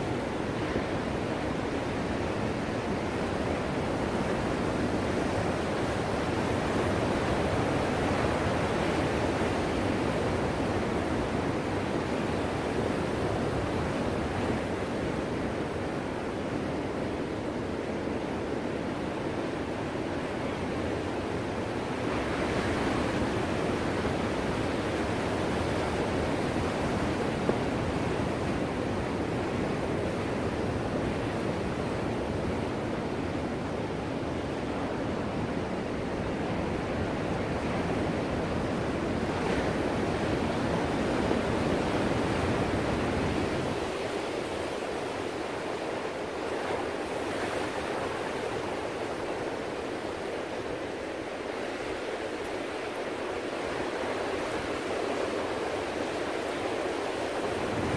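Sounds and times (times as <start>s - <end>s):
ocean waves breaking: 0.0s - 57.9s.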